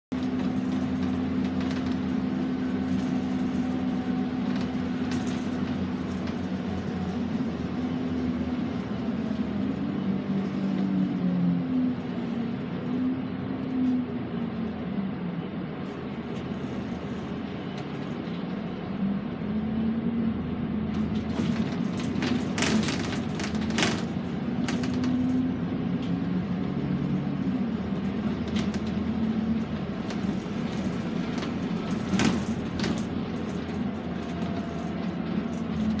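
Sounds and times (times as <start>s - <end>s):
bus engine running: 0.1s - 36.0s.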